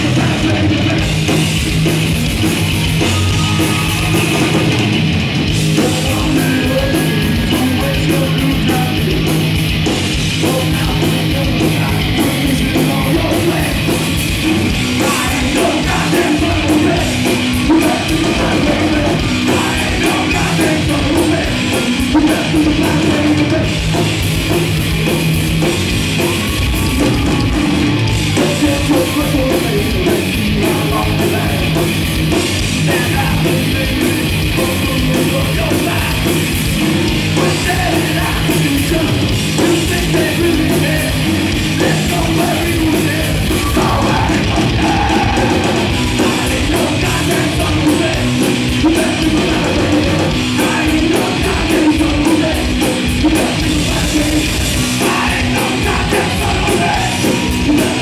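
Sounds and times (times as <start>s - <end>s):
drum kit driving beat: 0.0s - 58.0s
electric guitars: 0.0s - 58.0s.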